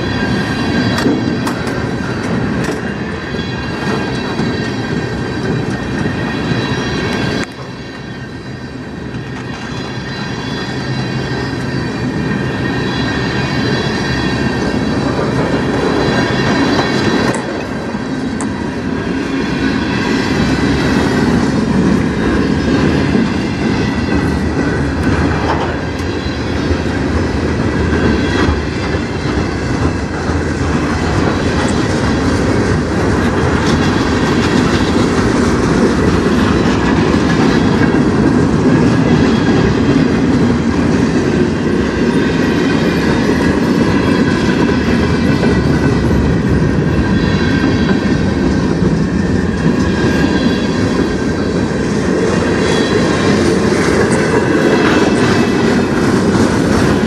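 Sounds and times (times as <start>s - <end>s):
train wheels rumbling and clicking: 0.0s - 57.0s.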